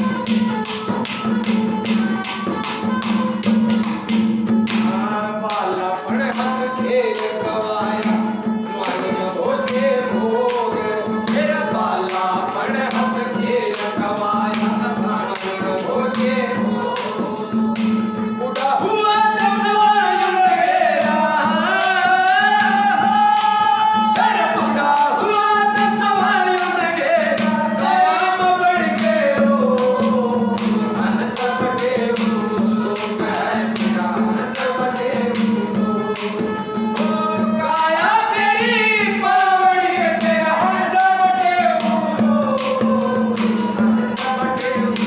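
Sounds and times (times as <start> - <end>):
hand drum rhythm: 0.0 - 45.0
harmonium: 0.0 - 45.0
man singing: 3.2 - 45.0.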